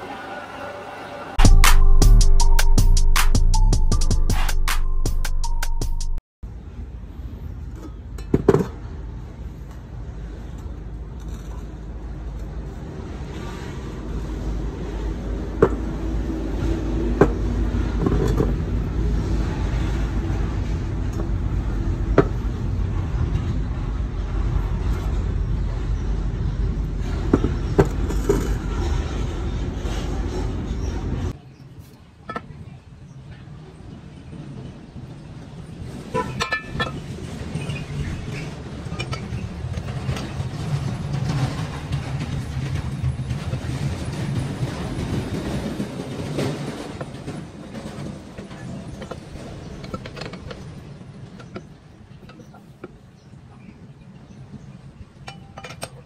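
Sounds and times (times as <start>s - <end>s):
road traffic rumble: 6.4s - 56.0s.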